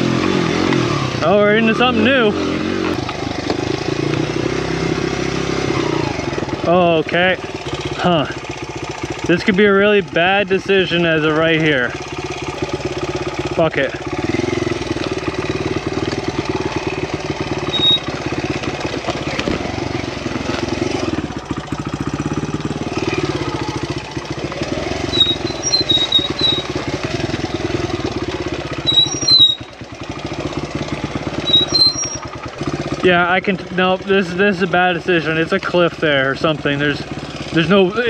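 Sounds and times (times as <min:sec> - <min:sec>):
dirt bike engine running: 0:00.0 - 0:38.0.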